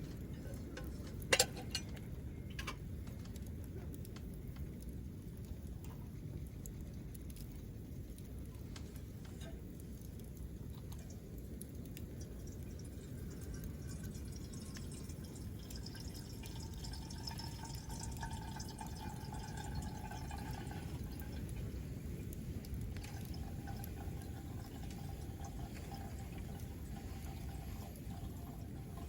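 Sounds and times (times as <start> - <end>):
campfire crackling and popping: 0.0 - 29.0
low steady fire rumble: 0.0 - 29.0.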